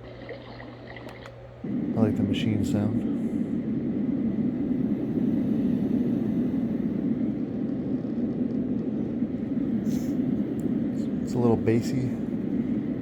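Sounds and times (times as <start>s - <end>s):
white noise machine rumble: 0.0s - 13.0s.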